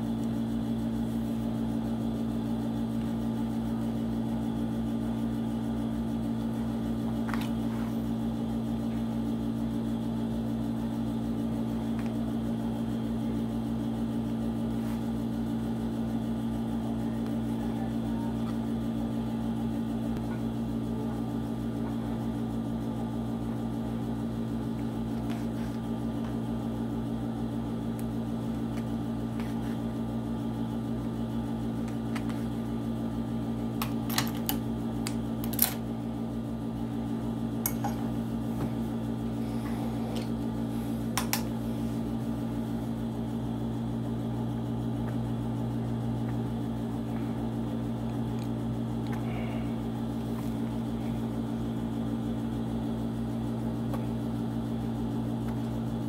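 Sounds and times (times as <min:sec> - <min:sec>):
low electric motor hum: 0:00.0 - 0:56.0.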